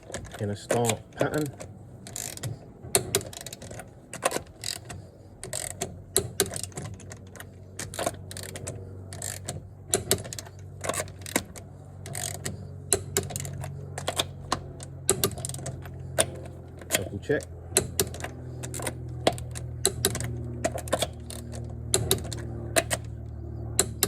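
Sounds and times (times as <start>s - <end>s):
steady low hum: 0.0s - 24.0s
torque wrench clicking: 0.0s - 24.0s.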